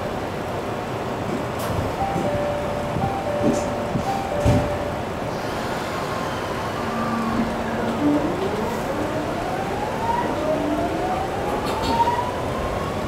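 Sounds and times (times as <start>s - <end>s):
electric train motors whining: 2.0s - 13.0s.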